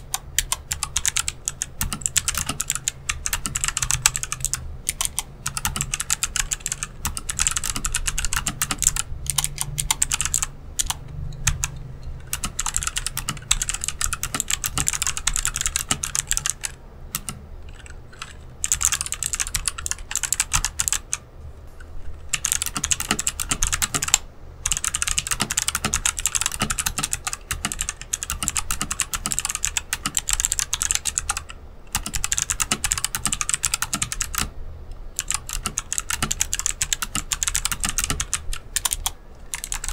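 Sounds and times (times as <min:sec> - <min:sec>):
fast typing on clicky keyboard: 0:00.0 - 0:21.2, 0:22.2 - 0:34.5, 0:35.1 - 0:39.9.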